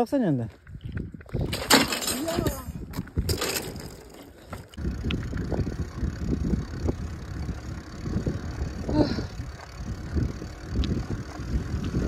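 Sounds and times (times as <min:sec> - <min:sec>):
wind buffeting microphone: 0:00.5 - 0:12.0.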